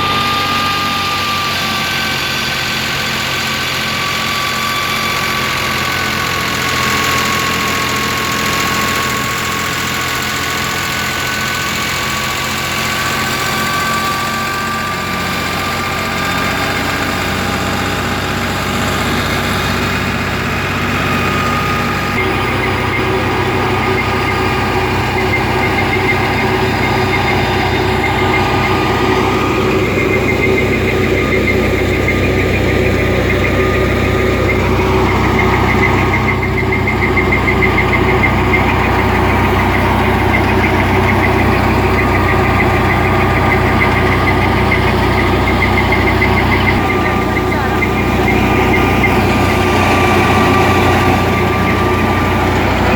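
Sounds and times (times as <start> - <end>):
thresher mechanical whine: 0.0 - 52.9
tractor diesel engine running: 0.0 - 52.9.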